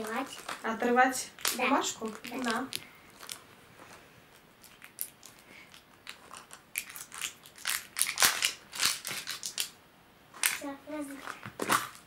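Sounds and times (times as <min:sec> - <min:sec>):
plastic wrapper tearing and crinkling: 0:00.0 - 0:03.5, 0:04.6 - 0:09.8, 0:10.4 - 0:12.0.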